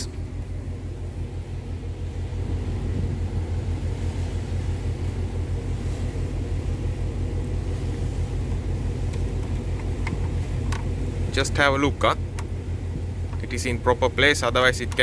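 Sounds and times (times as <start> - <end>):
ship engines rumbling: 0.0 - 15.0.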